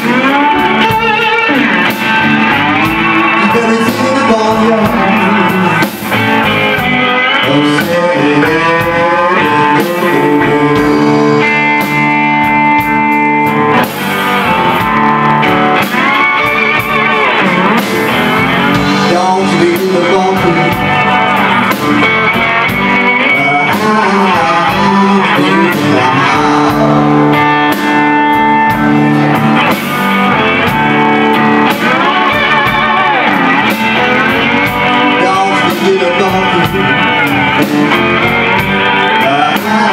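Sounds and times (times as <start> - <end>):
live blues band playing: 0.0 - 39.9
slide guitar gliding: 0.0 - 39.9.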